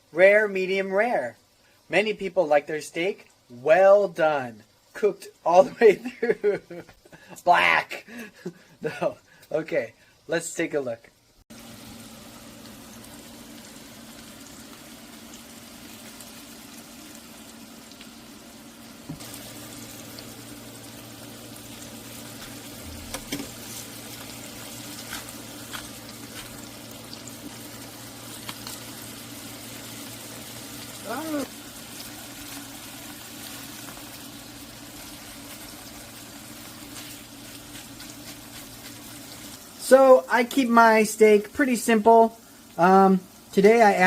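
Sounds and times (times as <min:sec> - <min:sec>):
steak sizzling in a frying pan: 0:00.1 - 0:44.0.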